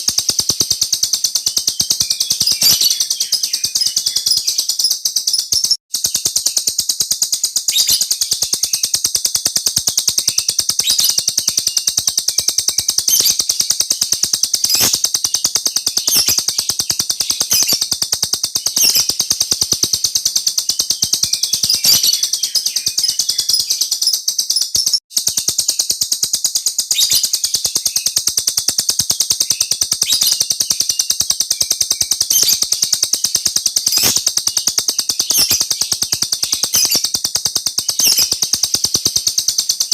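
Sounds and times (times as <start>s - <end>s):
songbird rolling trill: 0.0s - 39.9s.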